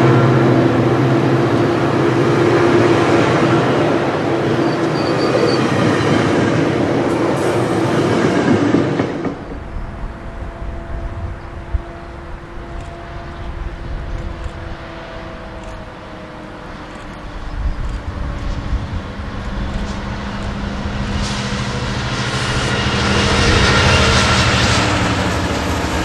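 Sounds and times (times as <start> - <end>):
diesel train approaching: 0.0 - 26.0.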